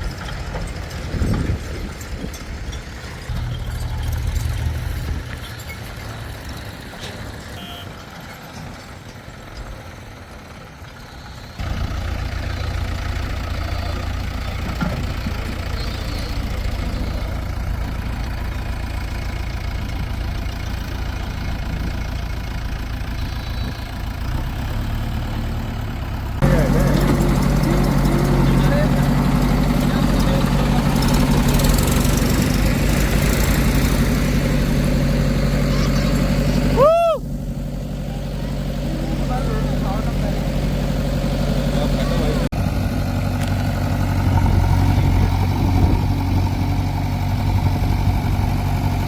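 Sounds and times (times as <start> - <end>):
diesel engines rumbling: 0.0 - 49.0.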